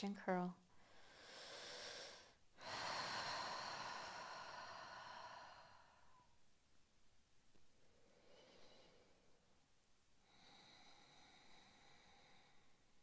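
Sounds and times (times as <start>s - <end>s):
woman breathing: 0.7s - 6.4s, 7.7s - 9.6s, 10.2s - 13.0s.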